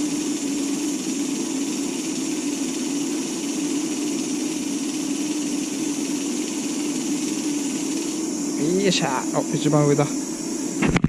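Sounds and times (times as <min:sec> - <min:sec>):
fishing reel motor whirring: 0:00.0 - 0:11.0.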